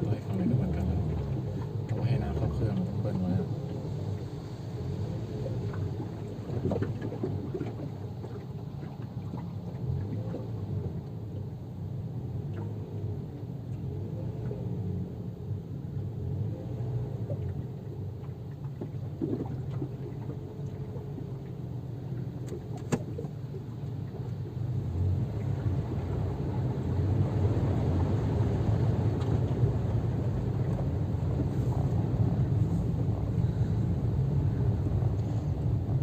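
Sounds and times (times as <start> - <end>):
car engine rumbling: 0.0 - 36.0.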